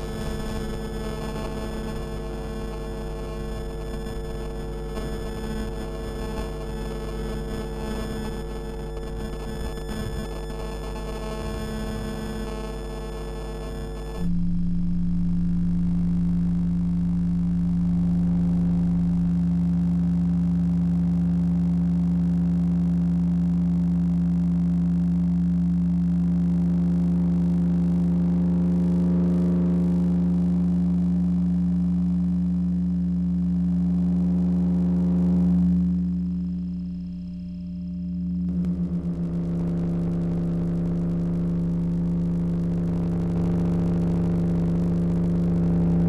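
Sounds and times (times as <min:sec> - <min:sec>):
steady electrical hum: 0:00.0 - 0:46.0.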